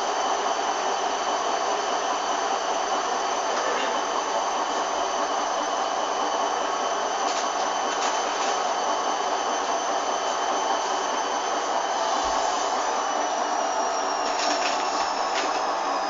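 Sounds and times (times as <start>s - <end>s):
washing machine motor whine: 0.0s - 16.0s.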